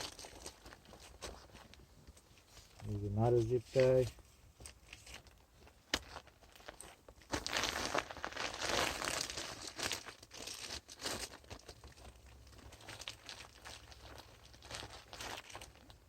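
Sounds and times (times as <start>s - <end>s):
insulation wrap crinkling: 0.0s - 16.0s.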